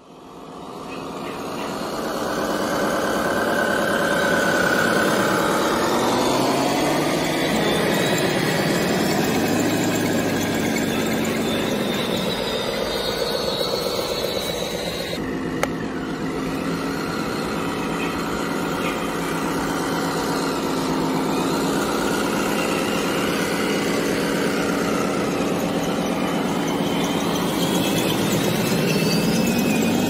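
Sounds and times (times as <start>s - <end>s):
electric motors whining: 0.0s - 30.0s
steady mechanical hum: 0.0s - 30.0s.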